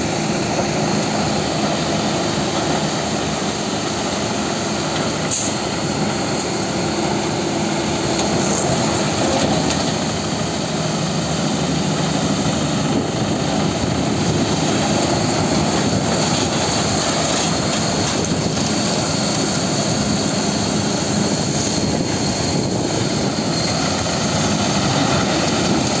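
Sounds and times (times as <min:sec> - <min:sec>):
heavy engine running under load: 0:00.0 - 0:26.0.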